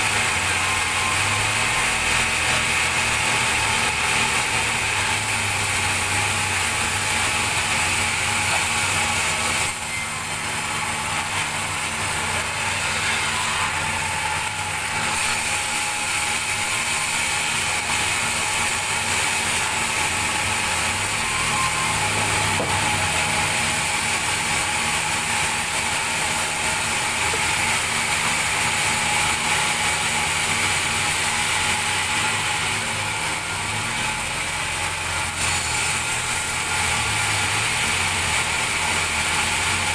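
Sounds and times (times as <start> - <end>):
band saw blade cutting log: 0.0 - 39.9
sawmill machine low hum: 0.0 - 39.9.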